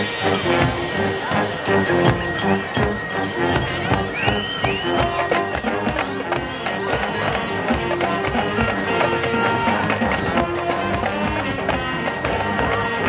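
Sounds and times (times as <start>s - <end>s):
brass and woodwinds: 0.0s - 13.0s
drumline percussion: 0.0s - 13.0s.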